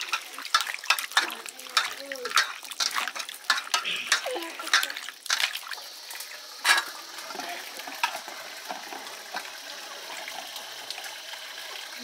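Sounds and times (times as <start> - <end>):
water sloshing in a steel bowl: 0.0 - 10.5
running tap water: 0.0 - 12.0.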